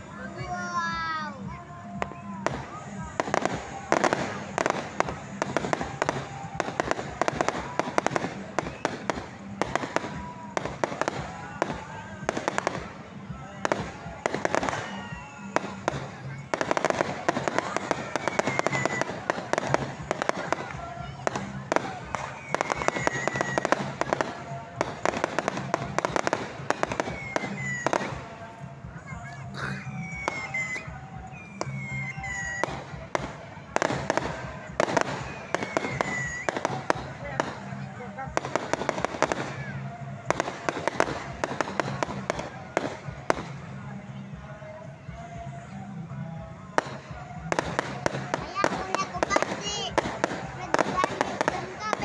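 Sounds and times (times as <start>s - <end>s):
fireworks bangs and cracks: 0.0s - 52.0s.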